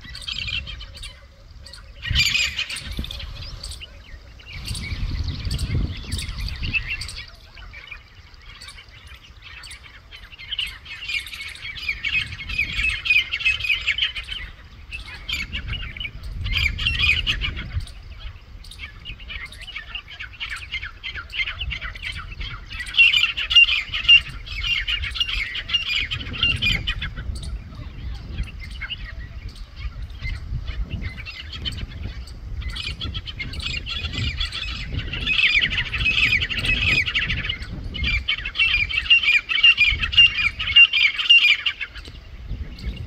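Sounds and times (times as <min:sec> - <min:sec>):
small birds chattering: 0:00.0 - 0:43.0.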